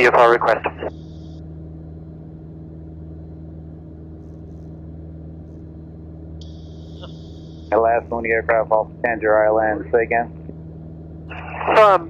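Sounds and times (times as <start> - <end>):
aircraft engine drone in cockpit: 0.0 - 12.0.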